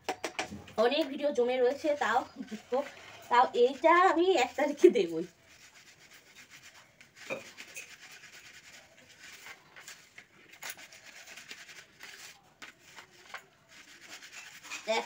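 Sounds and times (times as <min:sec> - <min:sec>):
powder scratching through sieve: 0:01.4 - 0:15.0.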